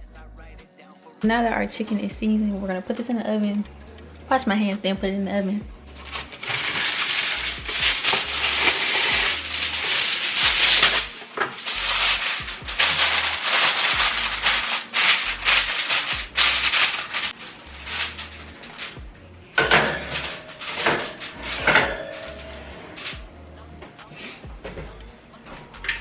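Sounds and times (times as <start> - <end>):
background music with bass line: 0.0 - 26.0.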